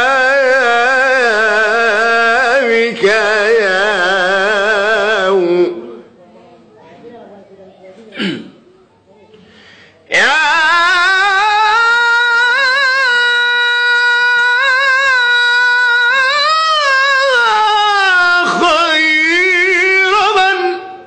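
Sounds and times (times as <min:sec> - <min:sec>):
man singing solo with vibrato: 0:00.0 - 0:06.1, 0:10.1 - 0:21.0.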